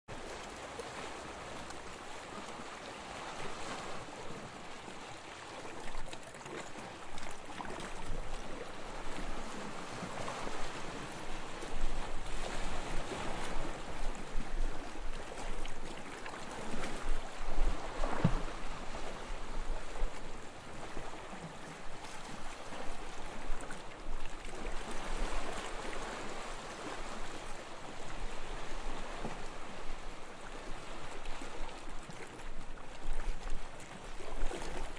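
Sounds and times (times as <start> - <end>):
gentle waves washing up beach: 0.1 - 34.9.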